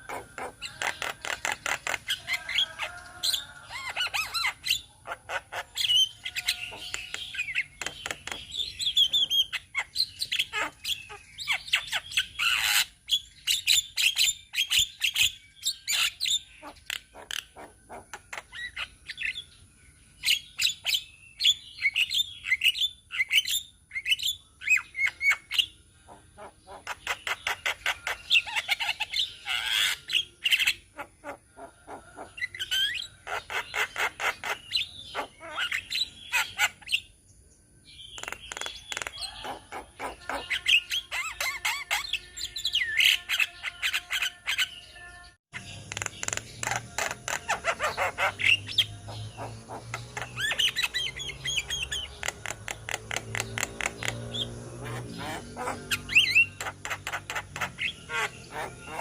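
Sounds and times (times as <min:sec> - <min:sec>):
birds chattering: 0:00.0 - 0:59.0.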